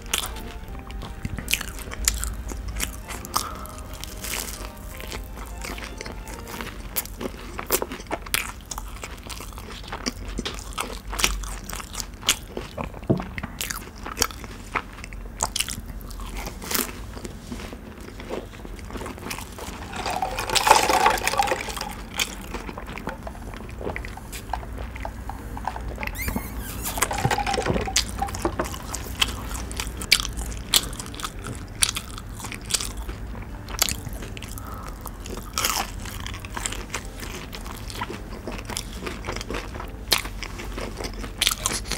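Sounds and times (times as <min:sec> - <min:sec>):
chewing crispy food: 0:00.0 - 0:26.2, 0:27.1 - 0:41.9.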